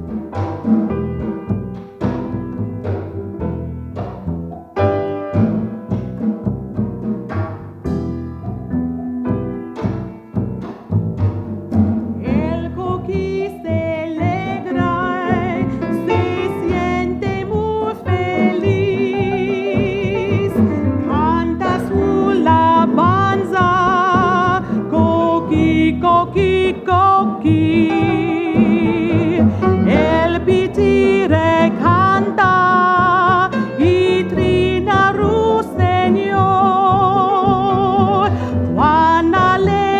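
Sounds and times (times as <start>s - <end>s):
latin jazz band playing: 0.0s - 39.9s.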